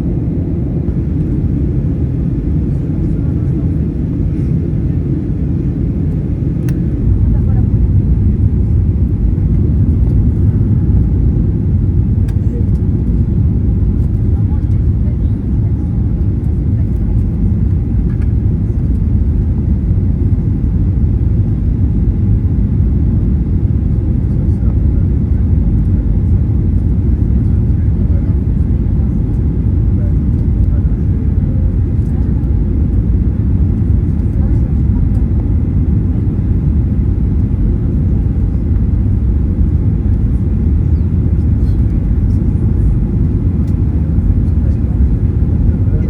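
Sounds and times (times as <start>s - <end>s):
airliner cabin low rumble: 0.0s - 46.0s.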